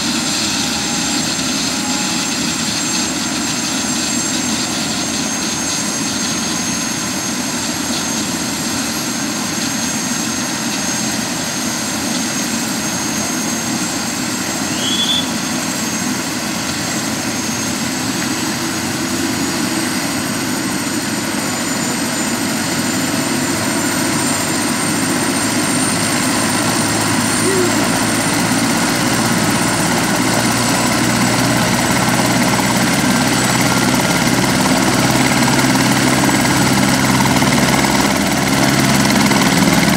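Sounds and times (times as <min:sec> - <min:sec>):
helicopter turbine whine and rotor: 0:00.0 - 0:39.9.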